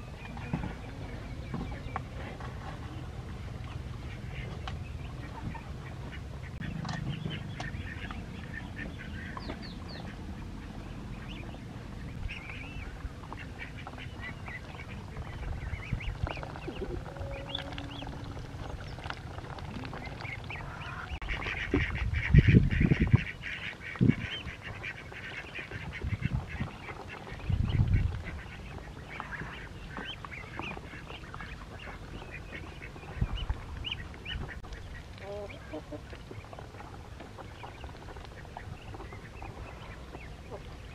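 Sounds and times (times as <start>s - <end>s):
ducks peeping and quacking: 0.0s - 40.9s.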